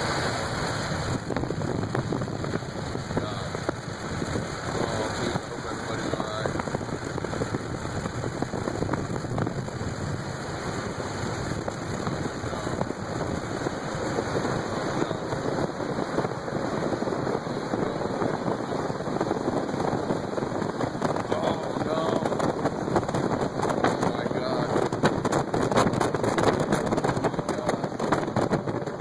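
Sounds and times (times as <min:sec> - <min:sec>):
rain and debris hitting a car: 0:00.0 - 0:29.0.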